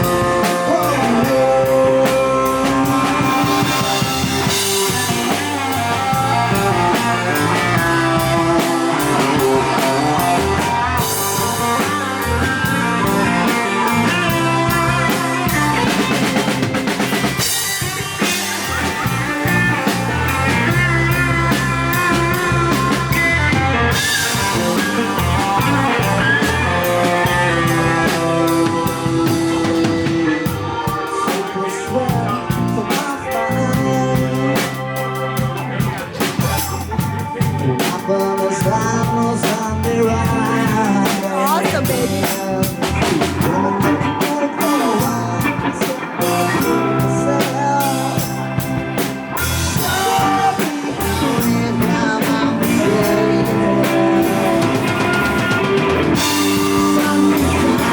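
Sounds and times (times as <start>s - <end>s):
live rock band playing: 0.0s - 57.9s.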